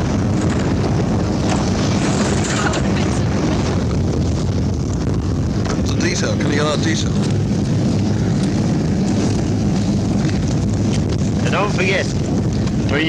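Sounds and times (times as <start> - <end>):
helicopter rotor and engine: 0.0 - 13.0
wind buffeting microphone: 0.0 - 13.0.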